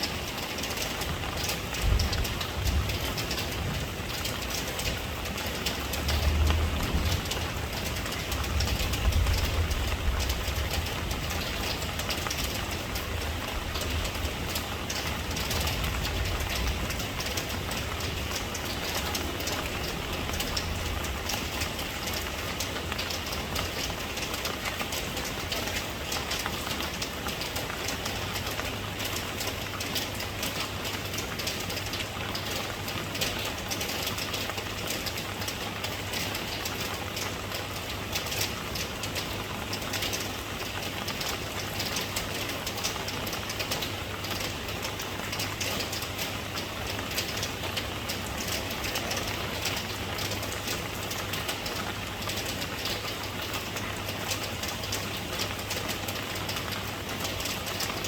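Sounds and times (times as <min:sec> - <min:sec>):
rain patter: 0:00.0 - 0:58.0.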